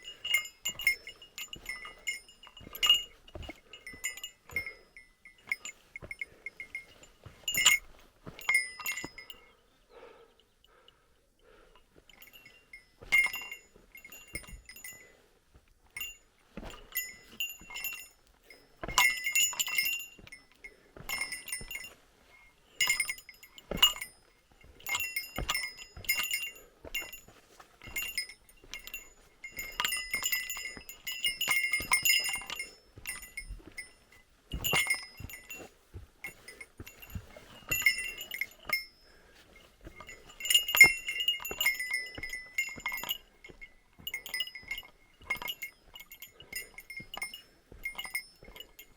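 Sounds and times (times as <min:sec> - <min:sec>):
small metal bell jingling: 0:00.0 - 0:09.6, 0:12.1 - 0:15.2, 0:16.0 - 0:48.9.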